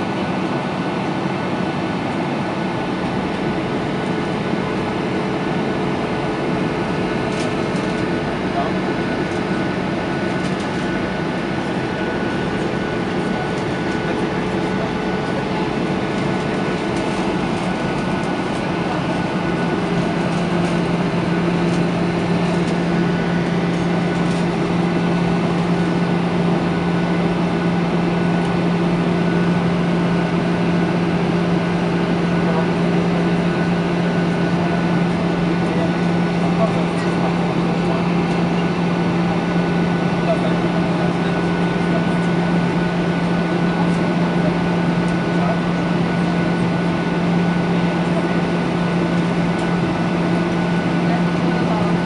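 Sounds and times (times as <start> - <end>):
jet engines droning: 0.0 - 52.0.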